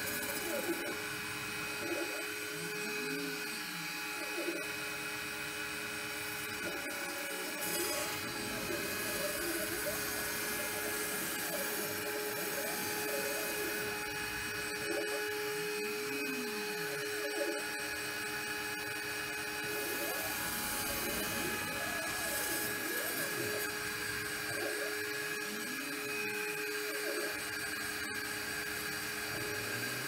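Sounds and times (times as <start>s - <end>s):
spindle high whine and hiss: 0.0s - 29.6s
motors whining up and down: 0.0s - 30.0s.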